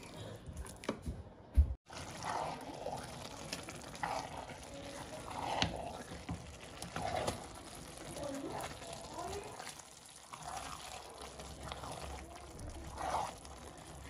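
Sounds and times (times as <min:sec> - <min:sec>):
wooden spoon stirring rice in pot: 0:01.8 - 0:14.0.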